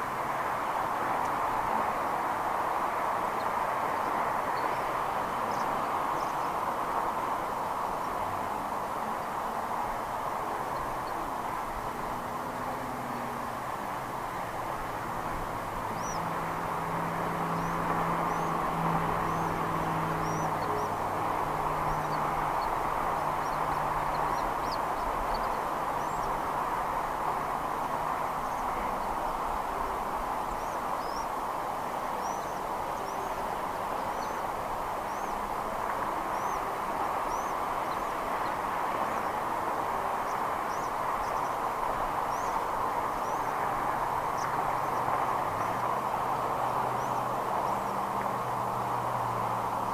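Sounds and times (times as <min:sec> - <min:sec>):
steady rushing noise: 0:00.0 - 0:49.9.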